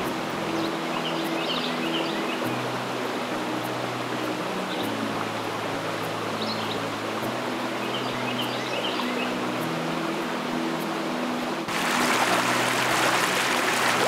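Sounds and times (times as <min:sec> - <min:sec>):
mountain stream rushing: 0:00.0 - 0:14.0
soft ambient music: 0:00.0 - 0:14.0.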